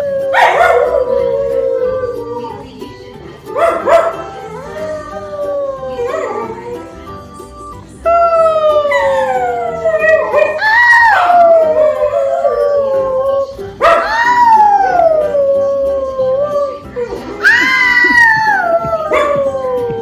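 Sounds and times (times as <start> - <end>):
dog howling: 0.0 - 2.7, 3.6 - 7.0, 8.0 - 20.0.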